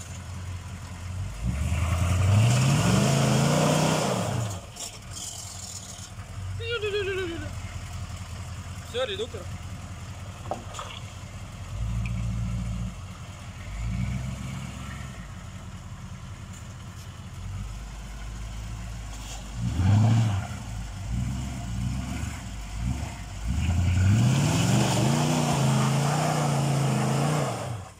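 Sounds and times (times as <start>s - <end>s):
diesel engine revving: 0.0s - 27.9s.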